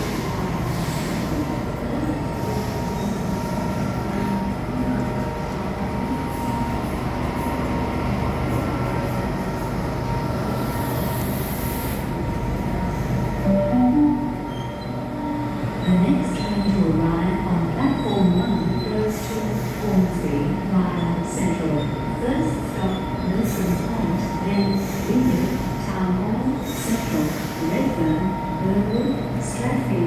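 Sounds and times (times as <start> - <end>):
electric train rumble: 0.0 - 30.0.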